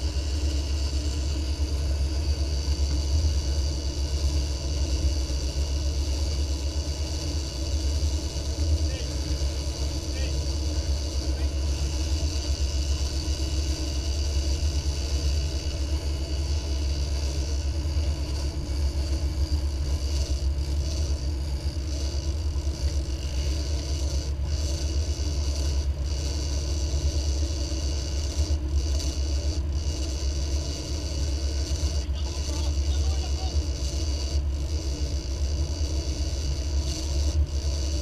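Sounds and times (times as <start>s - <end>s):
boat engine running: 0.0s - 38.0s.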